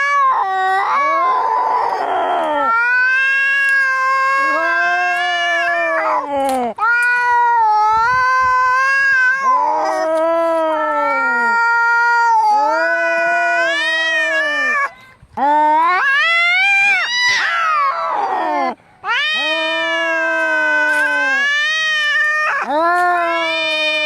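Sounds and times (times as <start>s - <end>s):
cats yowling in a fight: 0.0s - 24.0s.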